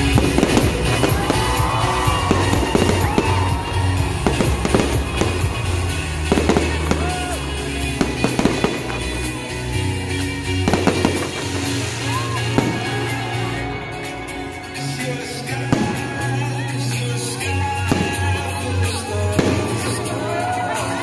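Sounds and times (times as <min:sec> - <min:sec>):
fireworks bursting: 0:00.0 - 0:20.8
background music: 0:00.0 - 0:21.0.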